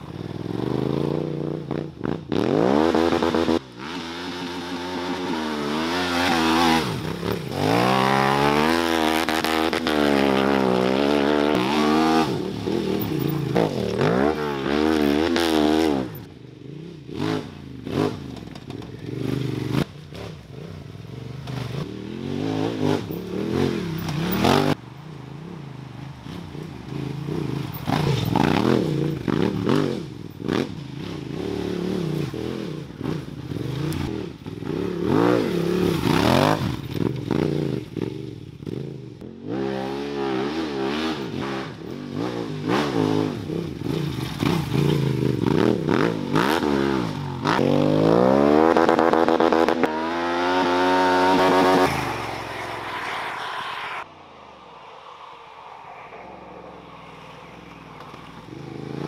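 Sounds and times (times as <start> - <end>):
motorcycle engine revving: 0.0 - 24.8, 25.4 - 53.6, 56.6 - 59.0.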